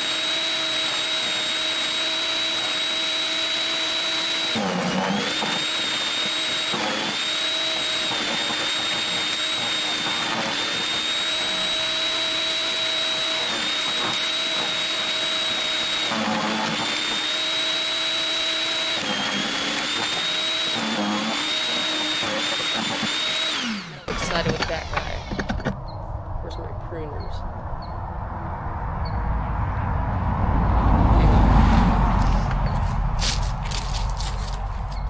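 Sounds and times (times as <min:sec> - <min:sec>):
wood chipper whining: 0:00.0 - 0:25.8, 0:31.2 - 0:35.0.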